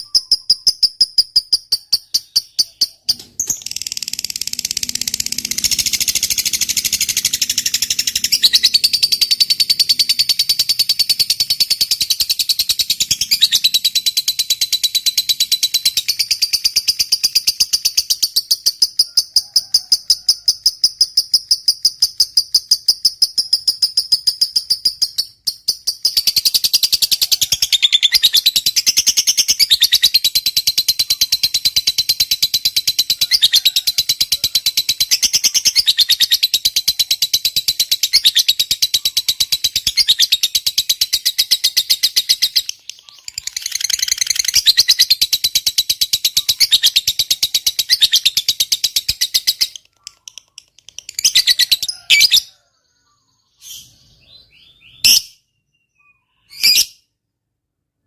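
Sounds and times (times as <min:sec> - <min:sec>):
lovebird chattering song: 0:00.0 - 0:19.4, 0:20.5 - 0:57.0.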